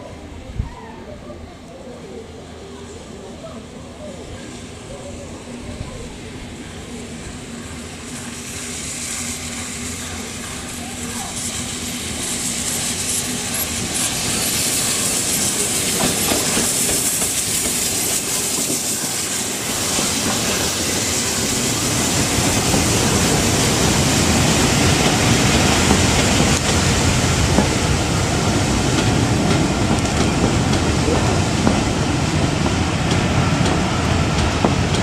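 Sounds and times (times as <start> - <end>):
train coaches rumbling: 0.0 - 35.0
steam locomotive hissing: 2.0 - 35.0.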